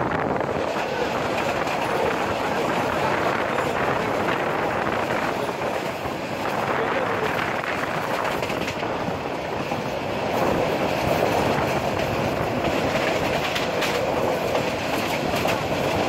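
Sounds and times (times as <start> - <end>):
train wheels rushing on rails: 0.0 - 16.0
wind rushing: 0.0 - 16.0
wheels clicking over rail joints: 0.6 - 16.0.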